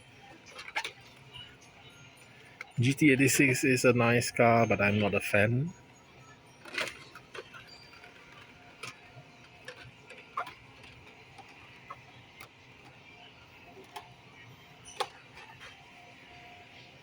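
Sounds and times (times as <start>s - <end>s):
faint shop background: 0.0s - 17.0s.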